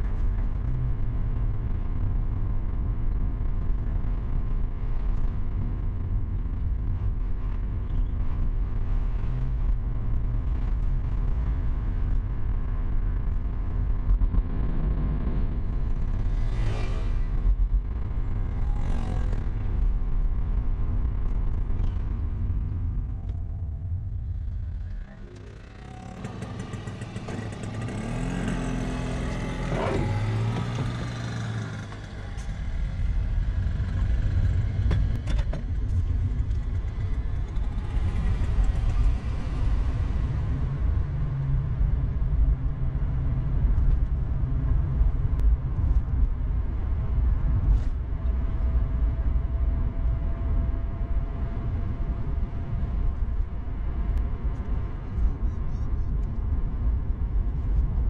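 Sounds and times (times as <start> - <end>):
tyres rumbling on road: 0.0 - 58.0.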